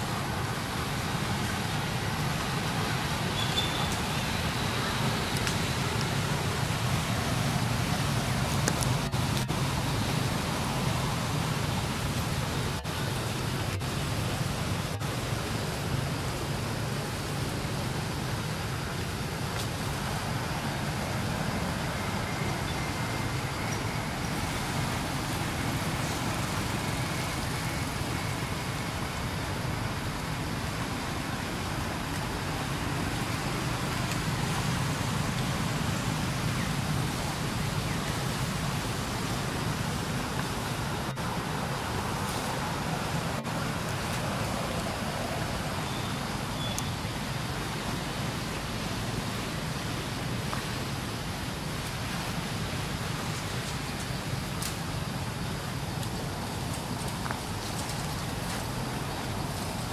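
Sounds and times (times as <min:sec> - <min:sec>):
outdoor background rumble: 0:00.0 - 0:59.9.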